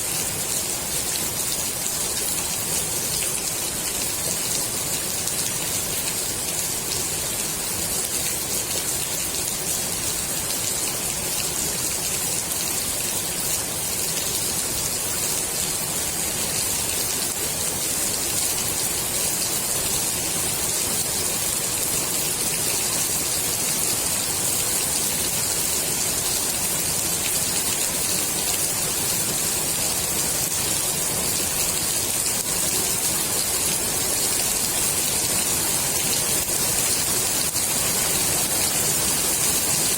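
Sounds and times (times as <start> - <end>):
heavy rain on water: 0.0 - 39.9.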